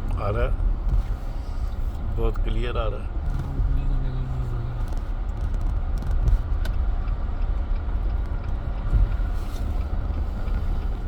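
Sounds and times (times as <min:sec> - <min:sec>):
car driving on highway: 0:00.0 - 0:11.0.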